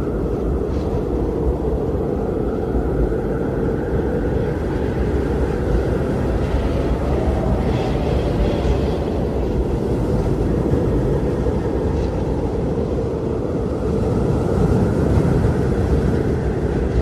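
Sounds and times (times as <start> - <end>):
strong wind blowing: 0.0 - 17.0.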